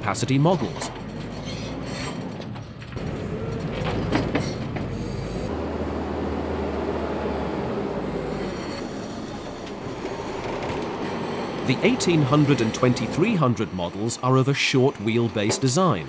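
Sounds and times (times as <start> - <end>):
telehandler machine running: 0.0 - 16.0.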